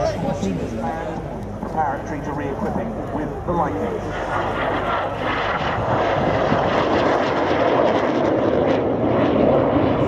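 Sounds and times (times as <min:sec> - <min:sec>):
jet roar: 0:00.0 - 0:10.0.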